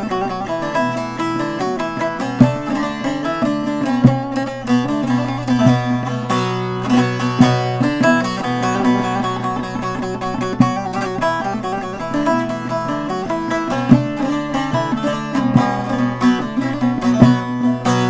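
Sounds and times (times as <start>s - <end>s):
plucked lute folk melody: 0.0s - 18.0s
strummed accents: 0.0s - 18.0s.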